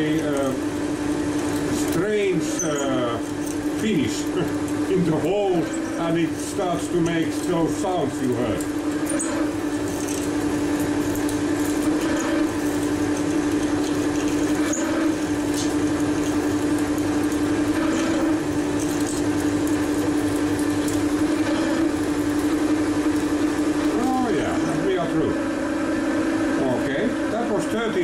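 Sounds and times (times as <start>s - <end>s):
drill cutting metal: 0.0s - 28.0s
lathe humming: 0.0s - 28.0s.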